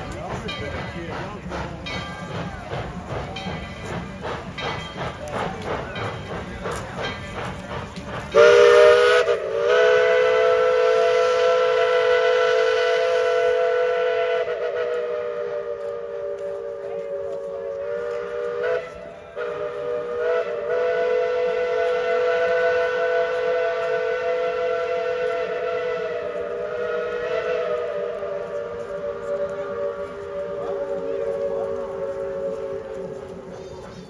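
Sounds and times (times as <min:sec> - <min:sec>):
steam locomotive chime whistle: 0:00.0 - 0:34.0.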